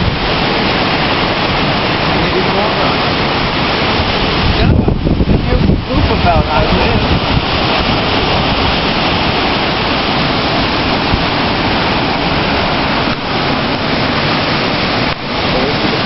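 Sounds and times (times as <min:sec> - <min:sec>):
storm wind on microphone: 0:00.0 - 0:16.0.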